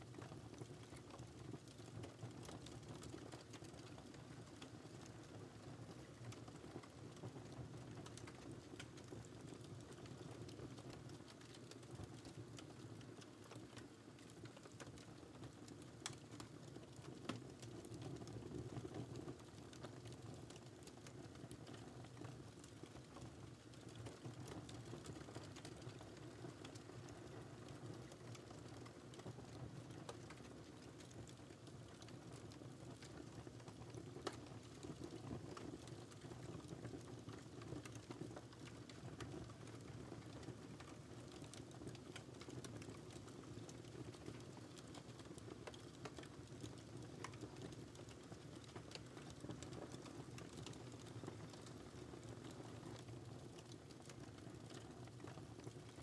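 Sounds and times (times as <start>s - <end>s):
wood fire burning: 0.0s - 56.0s.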